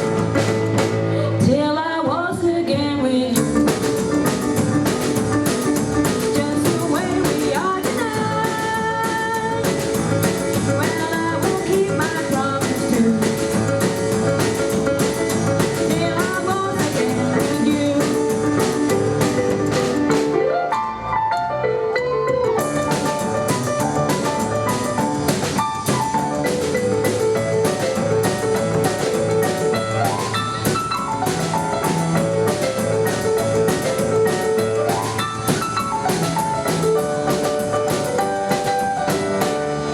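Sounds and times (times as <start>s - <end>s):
drum kit beat: 0.0s - 1.2s, 3.4s - 20.5s, 22.5s - 39.9s
rock and roll band playing: 0.0s - 1.4s, 3.3s - 39.9s
double bass: 0.0s - 1.6s, 3.4s - 39.9s
keyboard: 3.3s - 39.9s.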